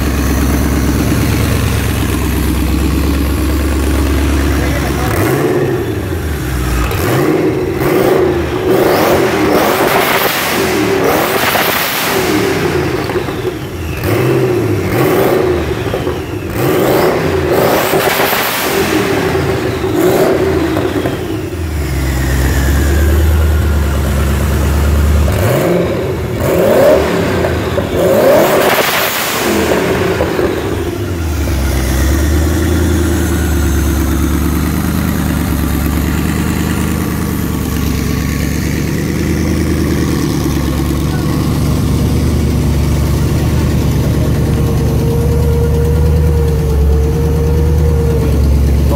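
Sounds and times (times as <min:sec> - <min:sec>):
car engine idling: 0:00.0 - 0:17.8, 0:18.4 - 0:48.9
car engine revving: 0:00.0 - 0:48.9.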